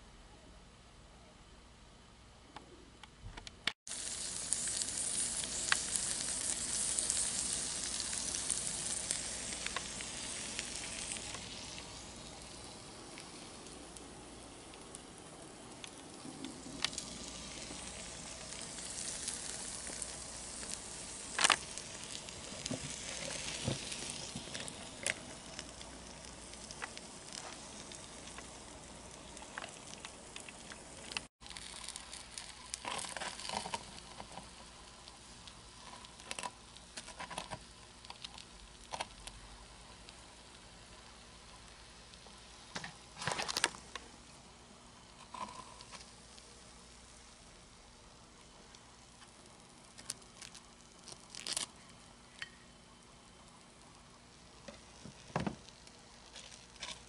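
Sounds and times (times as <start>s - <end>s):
corn dogs sizzling: 3.8s - 57.0s.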